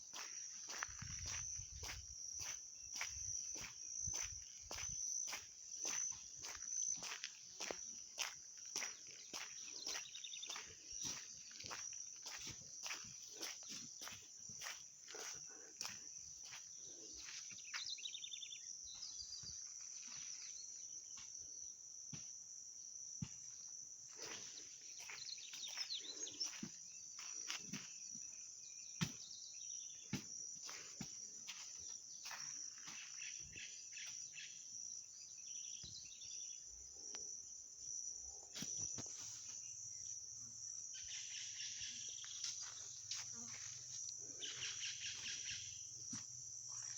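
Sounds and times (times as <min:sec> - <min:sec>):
insects chirring: 0:00.0 - 0:46.9.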